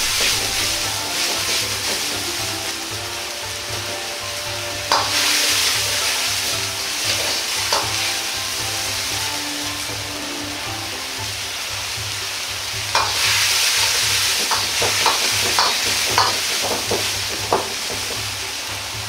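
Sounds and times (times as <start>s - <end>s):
ladle knocking against wok: 0.0s - 19.0s
sauce bubbling and sizzling: 0.0s - 19.0s.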